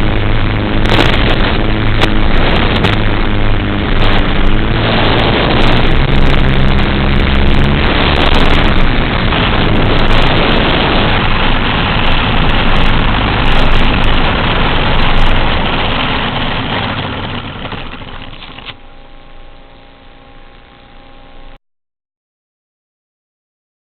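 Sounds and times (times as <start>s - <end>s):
drone motors and propellers: 0.0s - 21.6s
wind noise: 0.0s - 21.6s.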